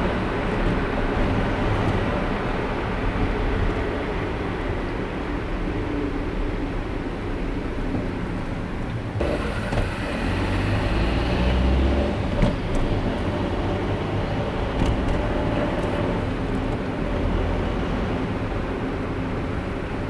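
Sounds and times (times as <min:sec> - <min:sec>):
tyre and traffic rumble: 0:00.0 - 0:20.0.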